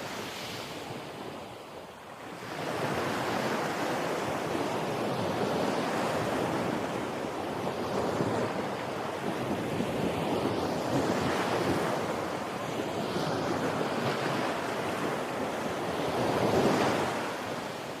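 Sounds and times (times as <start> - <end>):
surf breaking on a beach: 0.0 - 18.0.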